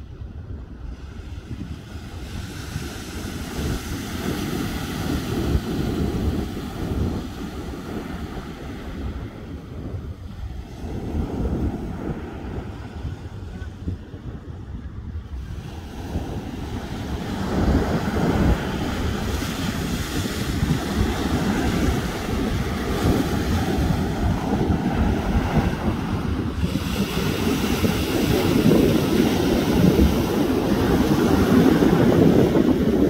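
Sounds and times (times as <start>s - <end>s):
ocean surf on beach: 0.0s - 33.0s
wind buffeting the microphone: 0.0s - 33.0s.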